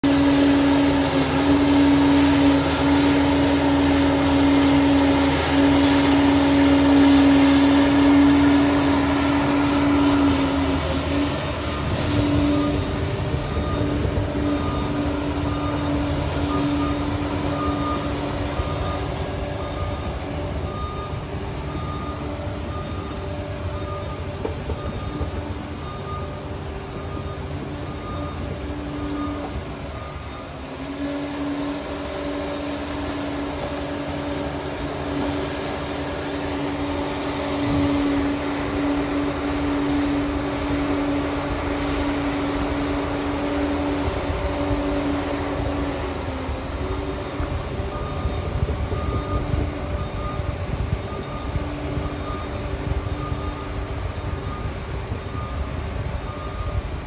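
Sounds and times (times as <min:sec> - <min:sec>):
bulldozer engine running: 0:00.0 - 0:57.0
reversing beeps: 0:00.0 - 0:57.0
steady whine: 0:00.0 - 0:57.0.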